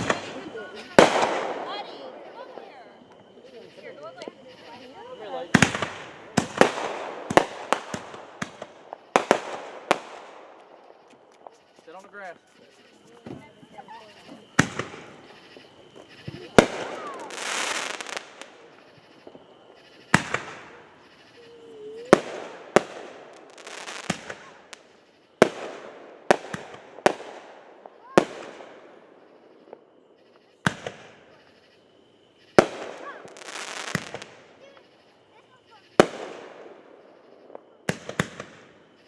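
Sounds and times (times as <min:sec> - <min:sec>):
fireworks bangs: 0:00.0 - 0:39.0
fireworks crackling hiss: 0:00.0 - 0:39.0.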